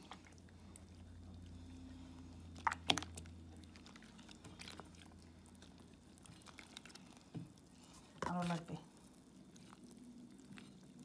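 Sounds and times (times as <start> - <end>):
spatula stirring and scraping pot: 0.0 - 11.0.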